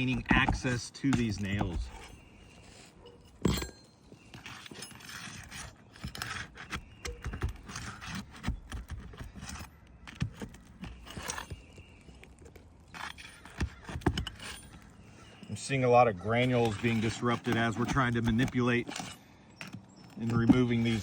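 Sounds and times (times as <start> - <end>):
hammer scraping and prying shingles: 0.0 - 21.0.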